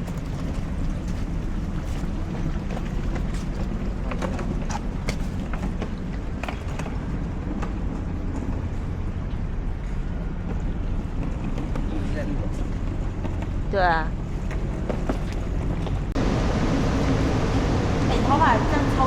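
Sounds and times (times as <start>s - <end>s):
ferry engines rumbling: 0.0s - 19.0s.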